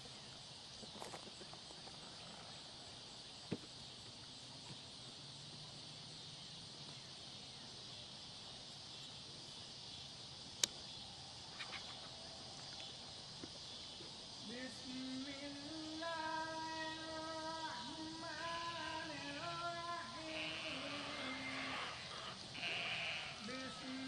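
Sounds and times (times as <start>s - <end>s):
high-pitched outdoor hiss: 0.0s - 24.0s.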